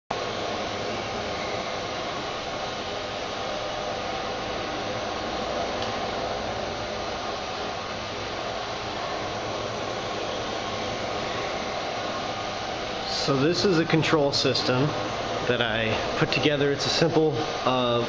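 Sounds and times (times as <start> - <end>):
machinery fan-like hiss: 0.1 - 18.0.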